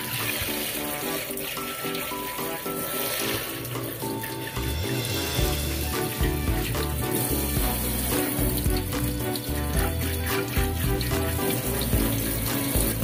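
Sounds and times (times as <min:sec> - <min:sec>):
background music with bass line: 0:02.4 - 0:13.0.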